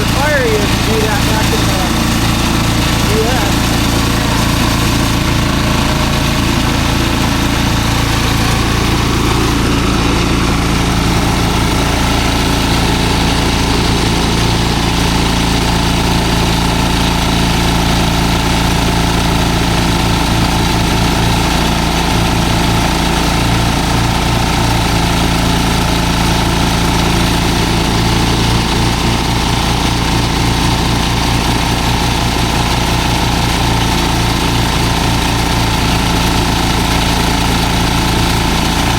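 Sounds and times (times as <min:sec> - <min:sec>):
machinery engine running: 0:00.0 - 0:38.9.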